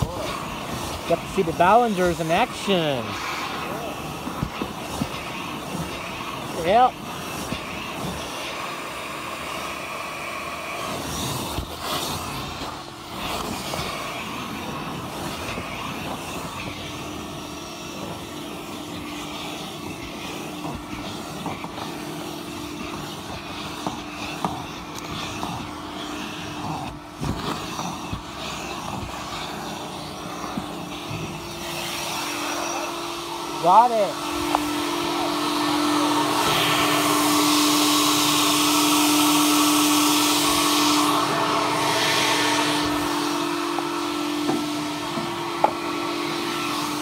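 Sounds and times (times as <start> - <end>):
car wash vacuum running: 0.0 - 47.0.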